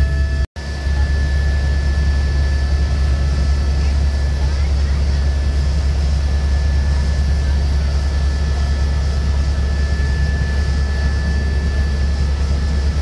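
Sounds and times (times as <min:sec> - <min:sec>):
helicopter cabin low rumble: 0:00.0 - 0:13.0
thin high whine: 0:00.0 - 0:13.0.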